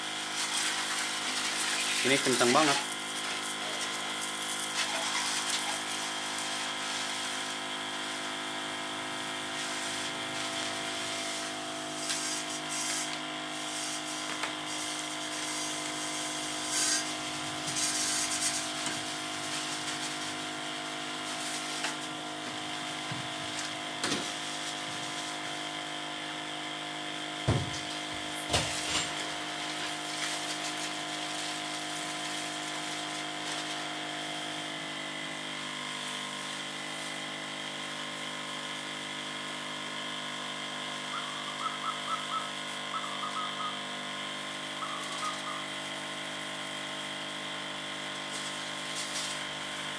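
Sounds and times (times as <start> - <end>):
electric sprayer pump whining: 0.0 - 49.9.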